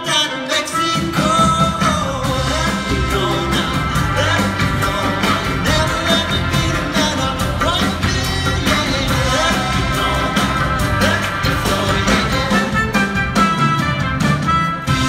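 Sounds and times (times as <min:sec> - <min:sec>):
sung lead vocal: 0:00.0 - 0:13.1
rock-pop band playing: 0:00.0 - 0:15.0.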